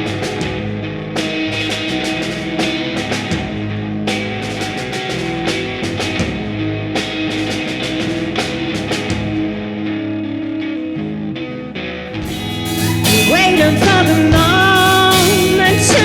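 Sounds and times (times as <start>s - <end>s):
steady drum beat: 0.0s - 9.4s, 12.2s - 16.0s
electric guitar: 0.0s - 16.0s.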